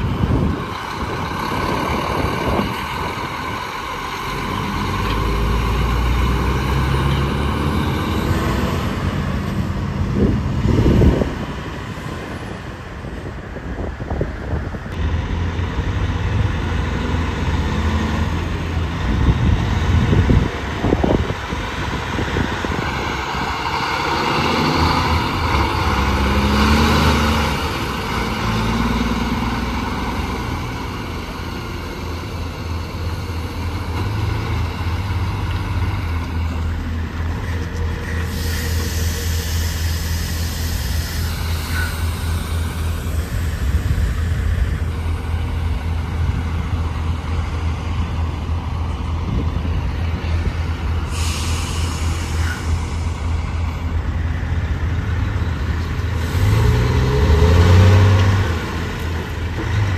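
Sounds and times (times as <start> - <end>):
vehicle passing by: 0.0 - 12.7, 15.2 - 39.3, 40.0 - 59.9
road traffic rumble: 0.0 - 59.9.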